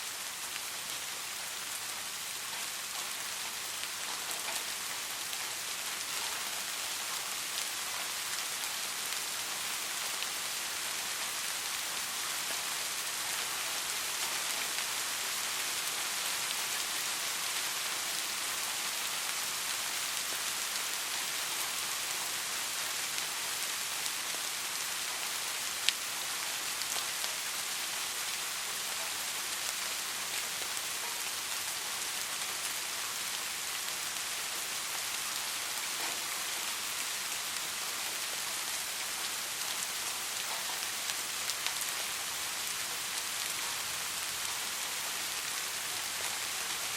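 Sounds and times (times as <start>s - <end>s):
soft rain hiss: 0.0s - 46.9s.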